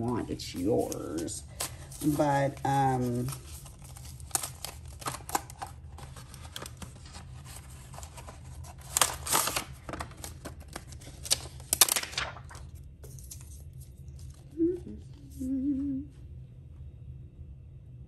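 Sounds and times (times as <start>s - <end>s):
packaging rustling and crinkling: 0.0s - 14.5s.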